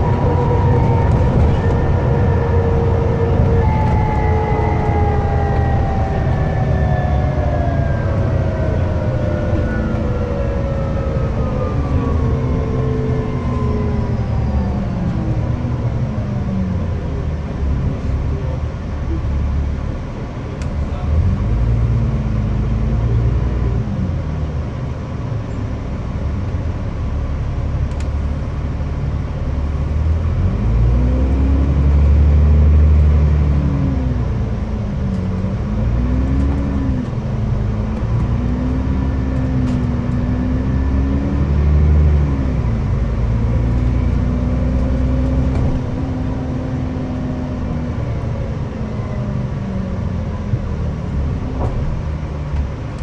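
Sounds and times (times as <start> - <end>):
bus diesel engine: 0.0 - 53.0.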